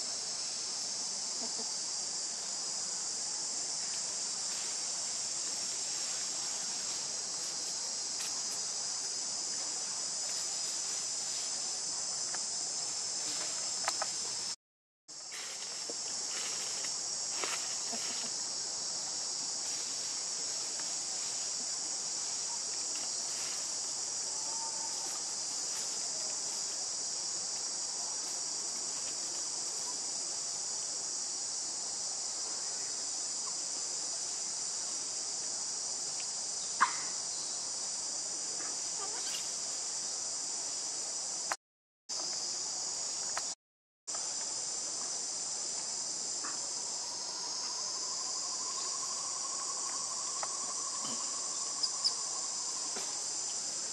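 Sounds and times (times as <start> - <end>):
insects chorus: 0.0 - 53.9.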